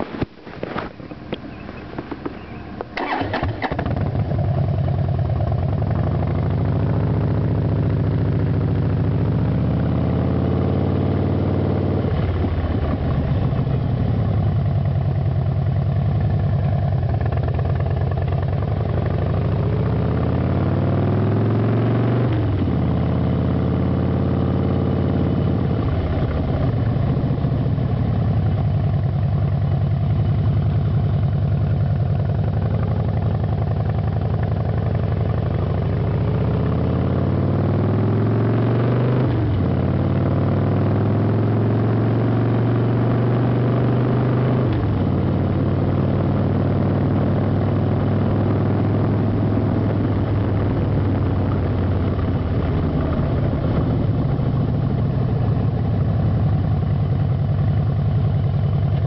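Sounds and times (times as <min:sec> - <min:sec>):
motorcycle engine revving: 0:00.7 - 0:59.0.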